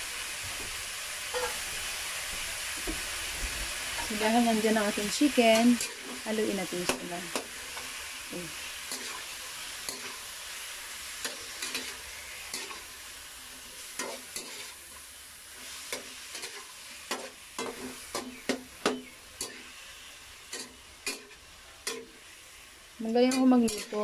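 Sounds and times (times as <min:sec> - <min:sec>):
frying sizzle: 0:00.0 - 0:24.0
spatula scraping a wok: 0:01.3 - 0:01.7, 0:03.9 - 0:24.0.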